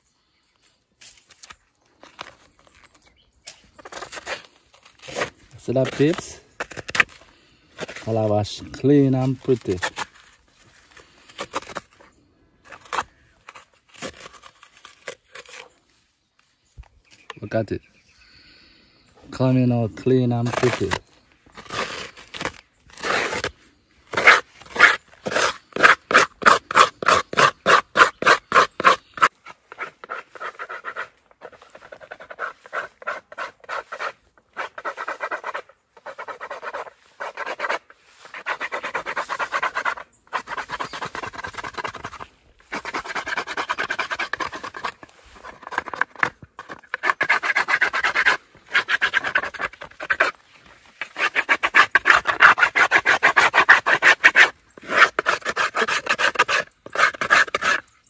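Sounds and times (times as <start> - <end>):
scraping gourd shell: 1.4 - 15.8, 20.3 - 58.0.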